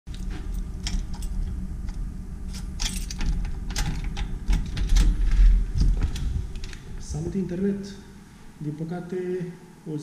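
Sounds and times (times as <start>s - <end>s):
steady low rumble: 0.1s - 9.8s.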